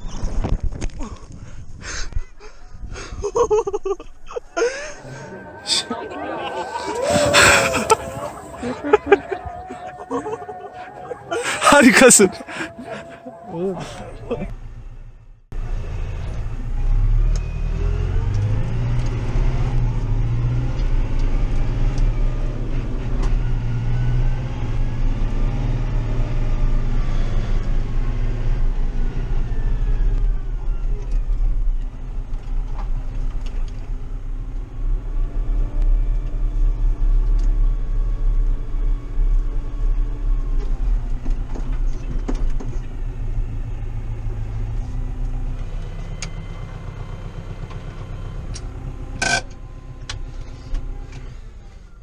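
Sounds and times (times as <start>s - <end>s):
tractor diesel engine revving: 4.5s - 52.0s.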